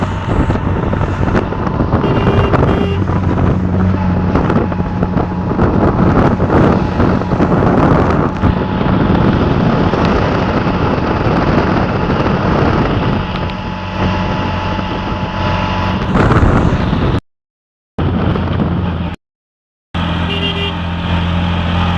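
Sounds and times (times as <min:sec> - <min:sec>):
low engine hum: 0:00.0 - 0:17.2, 0:20.0 - 0:21.9.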